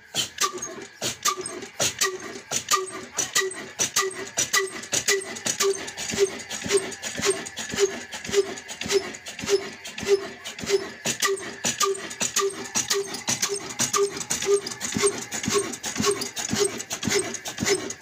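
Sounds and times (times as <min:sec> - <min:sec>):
diesel engine puffing slowly: 0:00.0 - 0:18.0.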